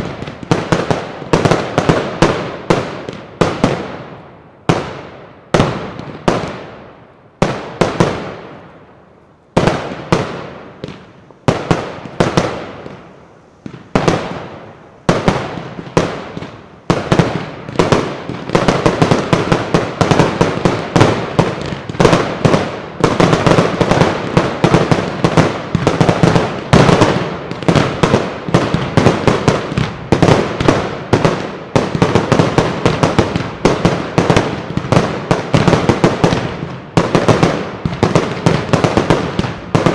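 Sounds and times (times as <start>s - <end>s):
fireworks bursting with echo: 0.0s - 39.9s.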